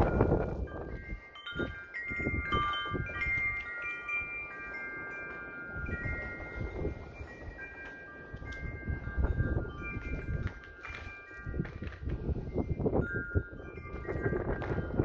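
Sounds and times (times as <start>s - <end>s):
wind buffeting microphone: 0.0s - 15.0s
wind chimes ringing: 0.0s - 15.0s.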